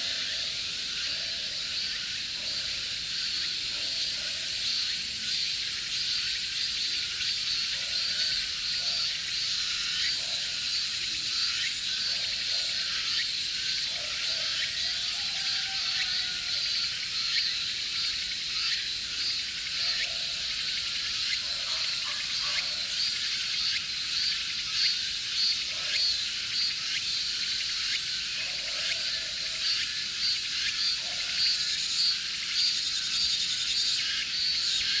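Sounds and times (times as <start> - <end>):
high-pitched insect chorus: 0.0 - 35.0
short lower insect calls: 0.0 - 35.0.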